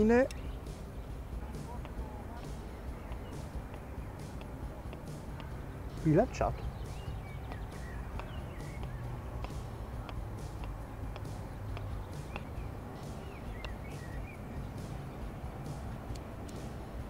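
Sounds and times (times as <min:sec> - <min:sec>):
faint bird chirps: 0:00.0 - 0:05.6, 0:06.3 - 0:10.2, 0:11.2 - 0:15.4
low background rumble: 0:00.0 - 0:17.0.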